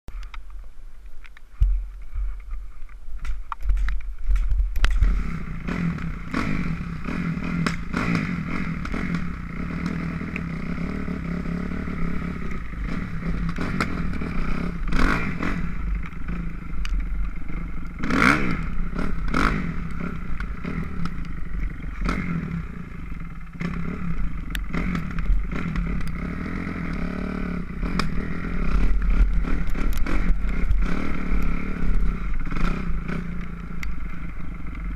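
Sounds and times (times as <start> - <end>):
dirt bike engine revving: 4.9 - 34.9.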